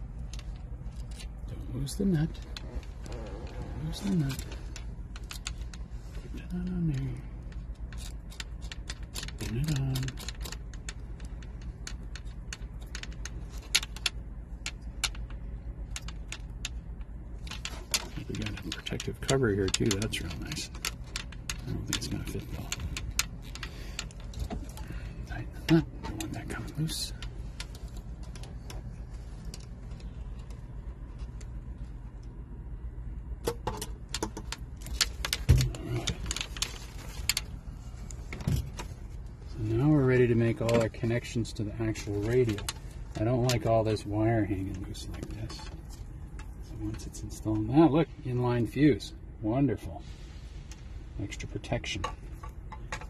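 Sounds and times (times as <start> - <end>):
small metallic clicks and rattles: 0.0 - 32.4, 33.4 - 47.8, 50.7 - 53.0
steady low hum: 0.0 - 53.0.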